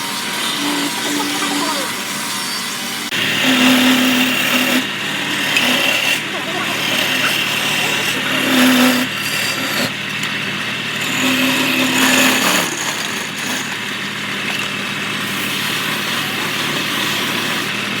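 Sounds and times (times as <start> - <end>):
tool cutting turning wood: 0.0 - 18.0
wood lathe running: 0.0 - 18.0.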